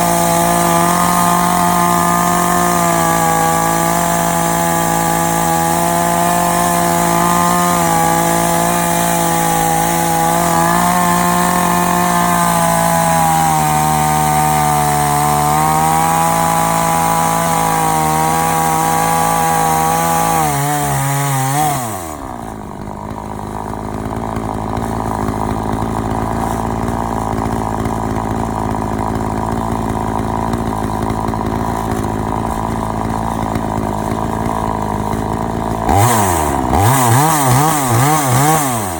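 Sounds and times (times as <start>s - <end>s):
chainsaw cutting through log: 0.0s - 38.9s
chainsaw idling: 0.0s - 38.9s.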